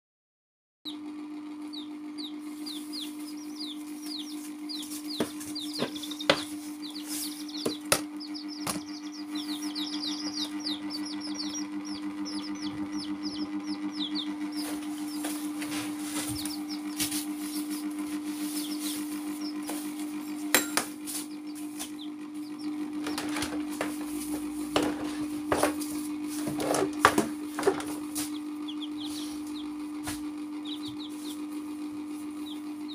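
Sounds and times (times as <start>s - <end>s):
chicks peeping: 0.9s - 32.9s
steady low hum: 0.9s - 32.9s.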